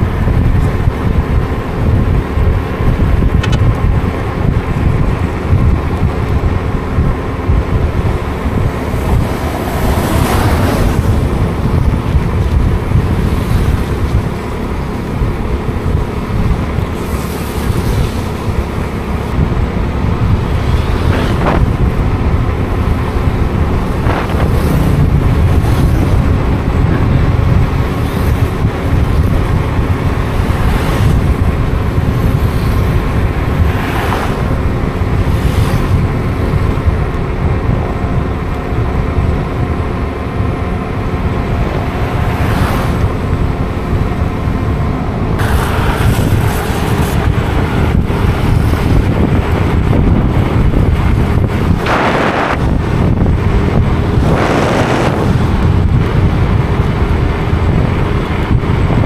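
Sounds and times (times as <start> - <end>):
vehicle engine running: 0.0 - 59.0
wind buffeting microphone: 0.0 - 59.0.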